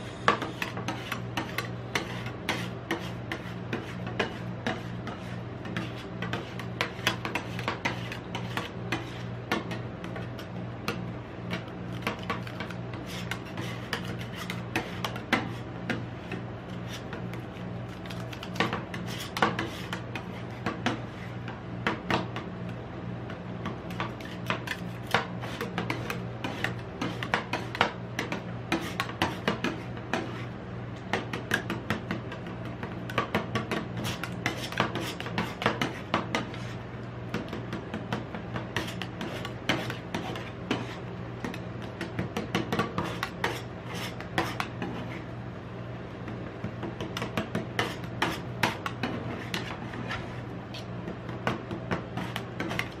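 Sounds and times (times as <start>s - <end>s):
steady low hum: 0.0s - 53.0s
metal spatulas tapping and scraping: 0.3s - 22.4s, 23.8s - 45.3s, 46.8s - 53.0s.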